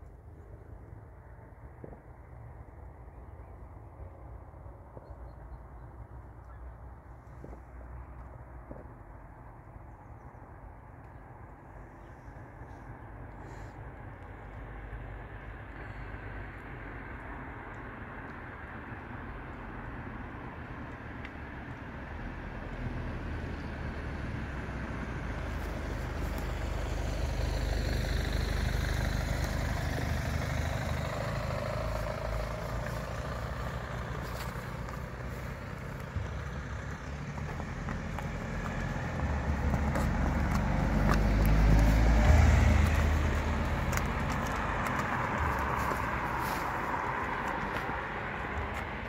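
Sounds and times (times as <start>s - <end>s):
cars driving past on road: 0.0s - 49.0s.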